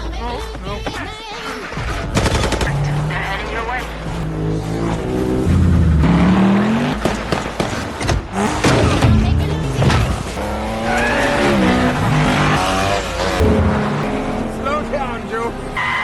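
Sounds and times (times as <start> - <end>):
car engines revving: 0.0 - 16.0
tyres squealing: 0.0 - 16.0
sharp hits: 1.7 - 16.0.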